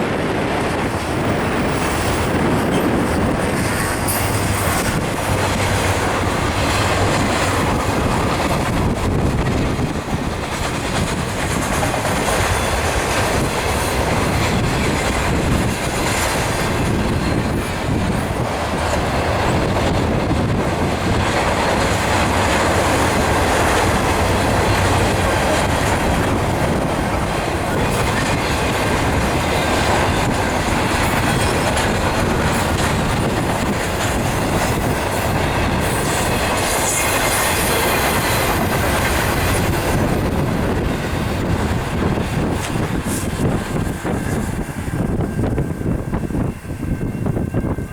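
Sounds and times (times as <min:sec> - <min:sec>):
freight train wheels on track: 0:00.0 - 0:47.9.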